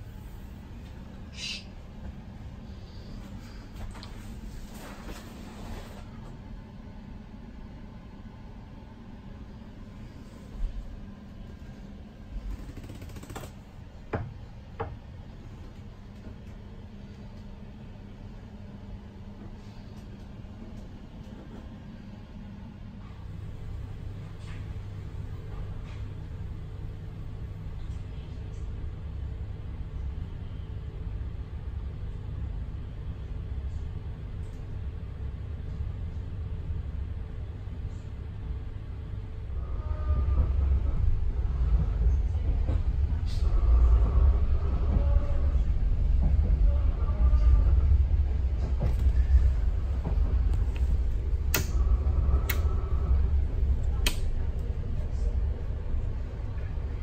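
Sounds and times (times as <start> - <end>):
faint steady hum: 0.0 - 57.0
train interior rumble: 0.0 - 57.0.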